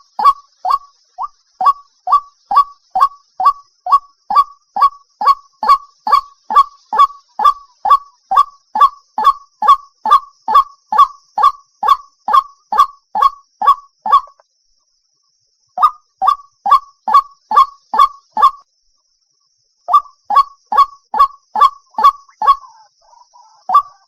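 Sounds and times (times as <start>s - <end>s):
waterhen calls: 0.0s - 14.4s, 15.8s - 18.6s, 19.9s - 24.0s.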